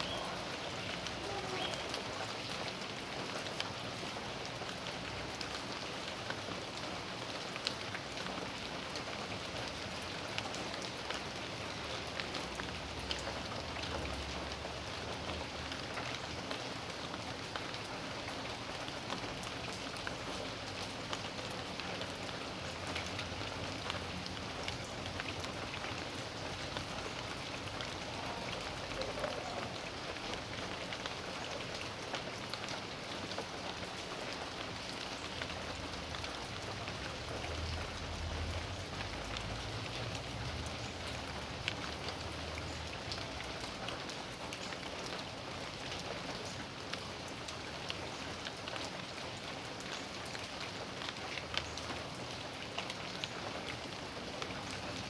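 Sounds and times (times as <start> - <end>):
raindrops ticking: 0.0 - 55.0
steady rain hiss: 0.0 - 55.0.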